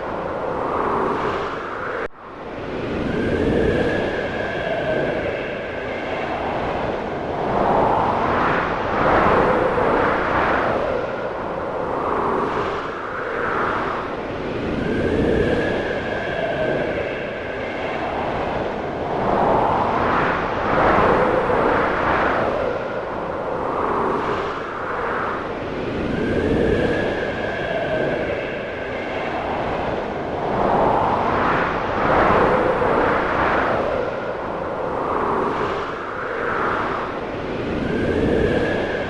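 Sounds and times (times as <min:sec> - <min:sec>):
wind howling in gusts: 0:00.0 - 0:39.0.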